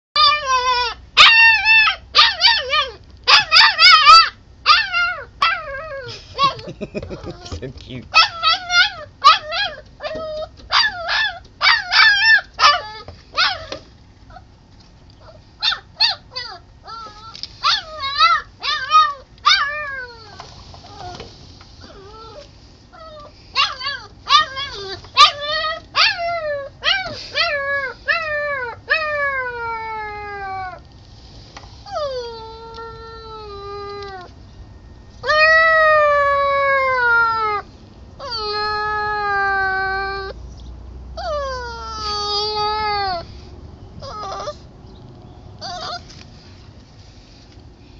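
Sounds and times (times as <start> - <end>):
puppy whining and crying: 0.2 - 14.6, 15.2 - 21.2, 21.8 - 30.9, 31.8 - 34.4, 35.2 - 40.4, 41.2 - 43.4, 44.0 - 44.7, 45.6 - 46.2.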